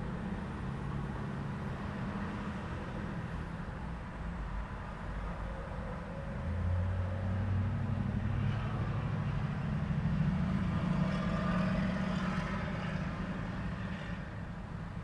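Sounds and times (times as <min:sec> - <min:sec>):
tyre and road noise: 0:00.0 - 0:15.0
vehicle engine hum: 0:00.0 - 0:15.0.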